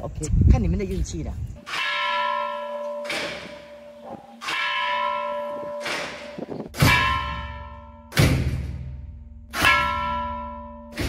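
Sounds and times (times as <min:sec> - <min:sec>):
temple bell ringing: 0:01.6 - 0:11.0.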